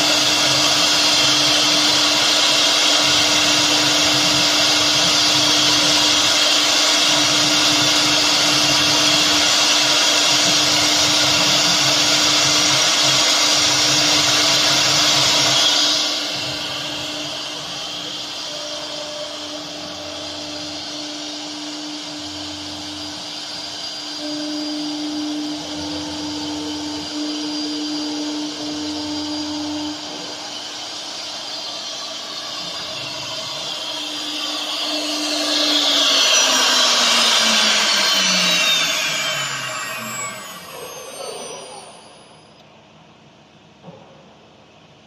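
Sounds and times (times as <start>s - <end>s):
router spindle whine: 0.0s - 42.6s.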